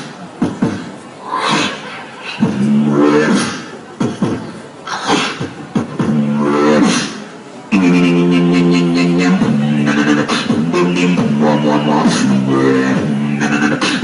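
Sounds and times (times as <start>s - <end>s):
beatboxing through a microphone: 0.0s - 14.0s.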